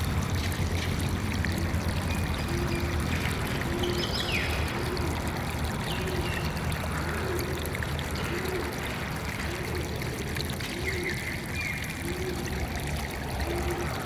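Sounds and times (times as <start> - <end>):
water flowing and trickling: 0.0 - 14.0.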